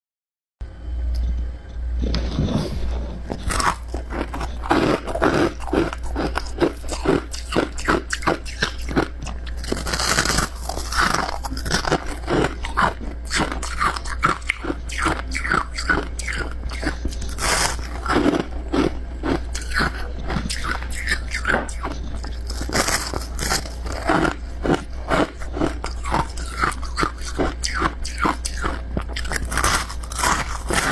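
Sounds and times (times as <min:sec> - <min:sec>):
steady low hum: 0:00.6 - 0:30.9
chewing crunchy frost: 0:02.0 - 0:30.9.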